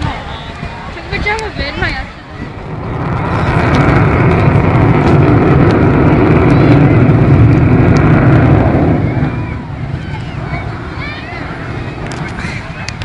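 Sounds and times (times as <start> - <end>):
jet aircraft roar overhead: 0.0 - 13.0.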